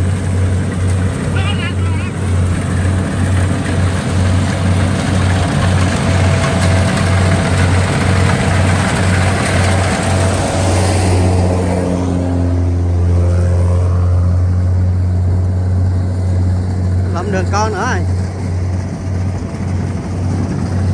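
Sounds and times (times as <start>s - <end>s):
combine harvester engine droning: 0.0s - 20.9s.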